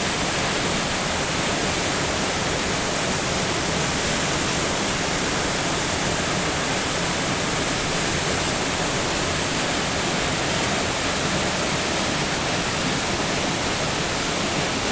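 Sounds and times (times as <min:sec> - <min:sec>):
waterfall rushing over rock: 0:00.0 - 0:14.9.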